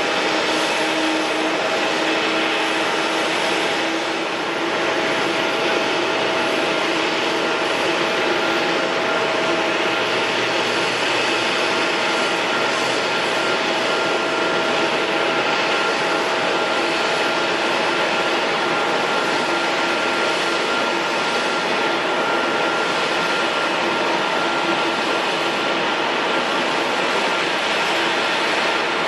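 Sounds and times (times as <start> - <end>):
jet engines hissing and whining: 0.0 - 29.0.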